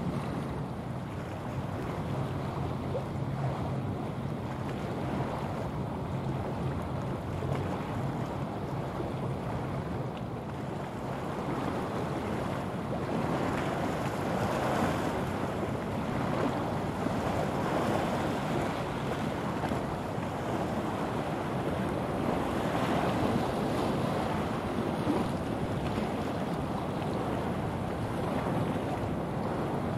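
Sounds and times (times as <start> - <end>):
water rushing from ship wake: 0.0 - 29.9
wind buffeting microphone: 0.0 - 29.9.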